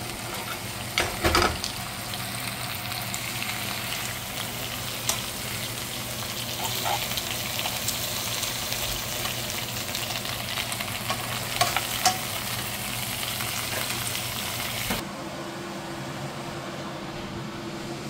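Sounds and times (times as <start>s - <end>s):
ribs sizzling in a frying pan: 0.0s - 15.0s.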